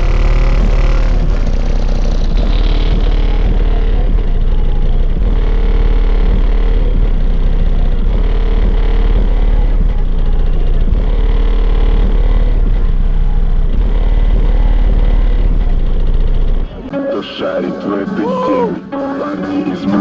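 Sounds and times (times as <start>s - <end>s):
bass-heavy music from car speakers: 0.0s - 20.0s.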